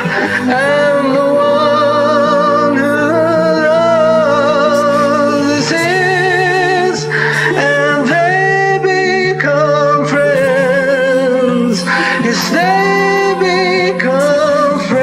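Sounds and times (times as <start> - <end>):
man and woman singing duet: 0.0 - 15.0.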